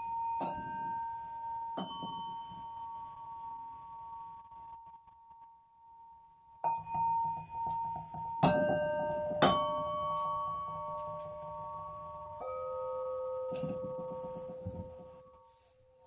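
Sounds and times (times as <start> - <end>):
bronze chime bells ringing: 0.0 - 16.0.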